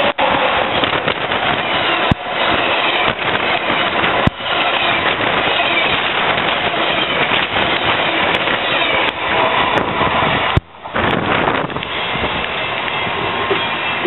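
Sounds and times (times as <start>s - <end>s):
train cars passing at speed: 0.0s - 14.0s.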